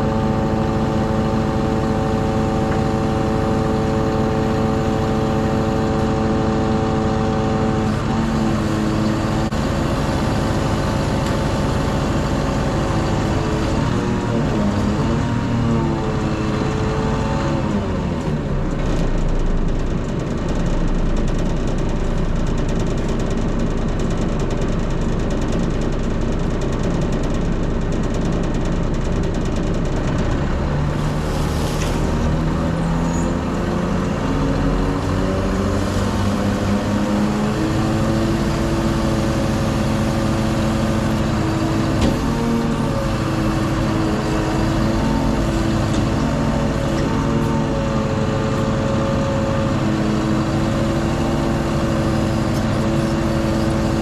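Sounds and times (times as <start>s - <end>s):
lorry diesel engine droning: 0.0s - 54.0s.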